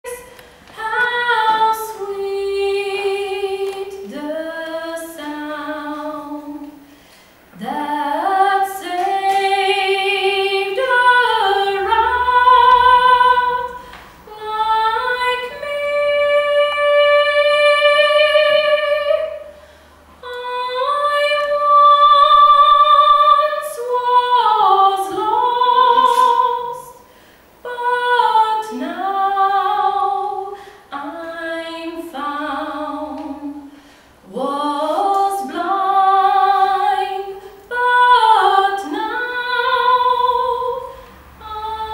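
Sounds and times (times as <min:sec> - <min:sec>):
woman singing classical style: 0:00.0 - 0:19.6, 0:20.2 - 0:41.9.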